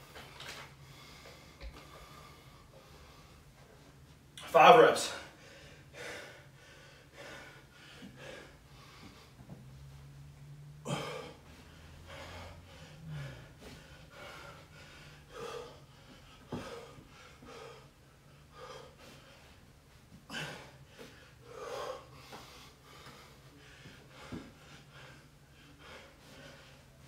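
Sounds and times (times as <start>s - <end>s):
person breathing hard: 0.0s - 3.7s, 5.2s - 9.6s, 10.8s - 27.0s
faint steady hum: 0.0s - 27.0s.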